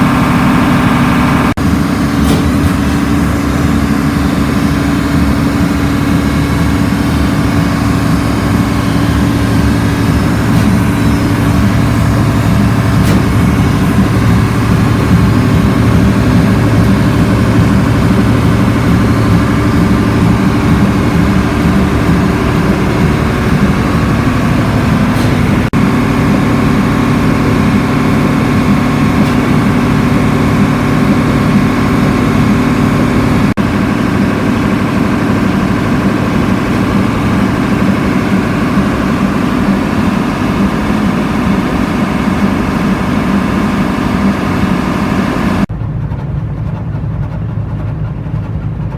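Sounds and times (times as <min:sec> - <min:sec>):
marine diesel engine running: 0:00.0 - 0:48.9.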